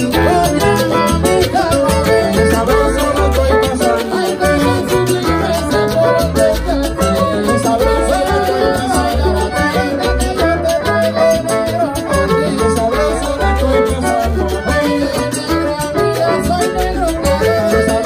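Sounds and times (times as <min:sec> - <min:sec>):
salsa band playing: 0:00.0 - 0:18.0.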